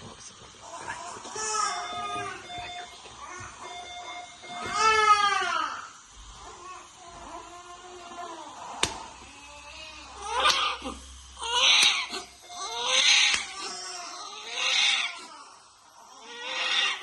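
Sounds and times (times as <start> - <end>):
baby crying: 0.7 - 2.6, 3.2 - 17.0.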